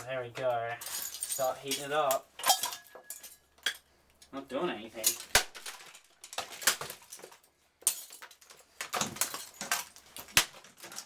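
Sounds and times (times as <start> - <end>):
plastic and metal parts clattering: 0.0 - 3.8, 5.0 - 11.0.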